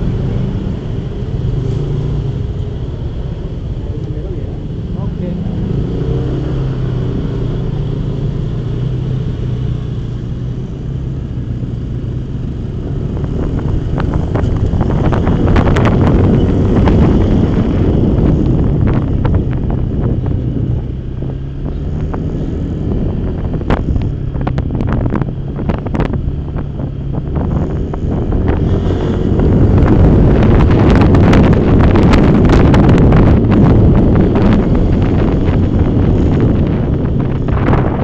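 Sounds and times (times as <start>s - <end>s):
motorcycle engine running: 0.0s - 38.0s
wind rushing over microphone: 0.0s - 38.0s.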